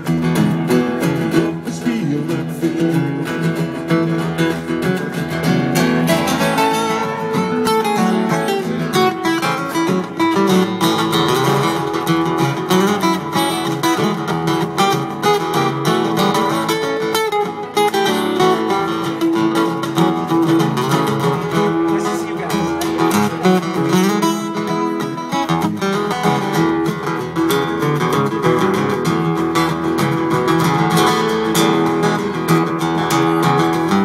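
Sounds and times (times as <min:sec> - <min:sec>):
strummed acoustic guitar: 0:00.0 - 0:34.0.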